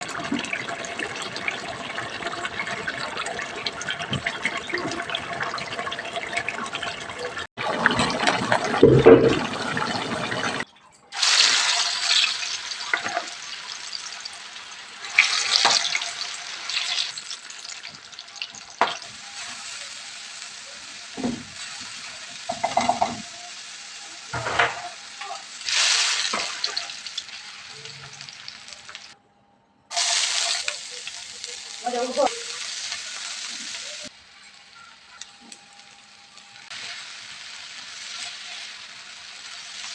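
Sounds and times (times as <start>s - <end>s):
food sizzling in a pan: 0.0s - 29.2s, 29.9s - 39.9s.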